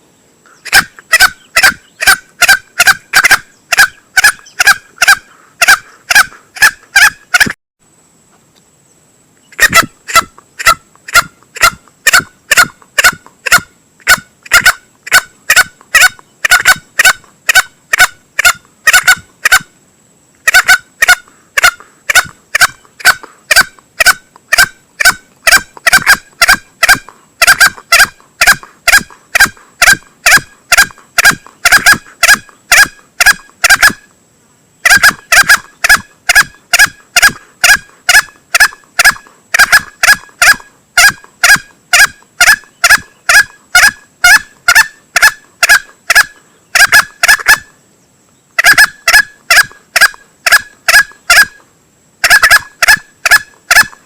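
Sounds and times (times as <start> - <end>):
bird lure calls: 0.5 - 7.6, 9.5 - 19.7, 20.5 - 34.1, 34.8 - 47.7, 48.6 - 51.6, 52.2 - 54.0.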